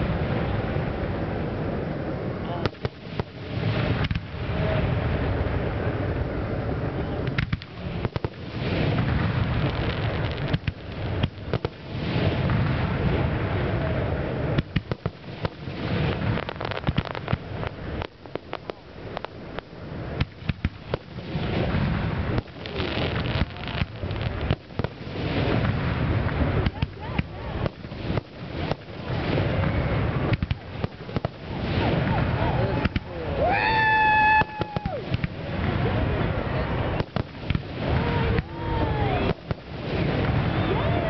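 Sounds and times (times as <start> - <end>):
firework crackle: 0.0 - 41.0
firework shells booming: 2.6 - 5.3, 7.2 - 33.4, 34.0 - 36.1, 36.9 - 40.9.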